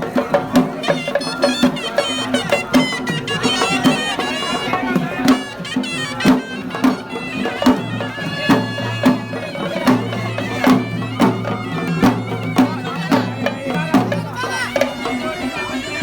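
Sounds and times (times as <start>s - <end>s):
regular drum beat: 0.0s - 16.0s
reedy wind instrument drone: 0.7s - 16.0s.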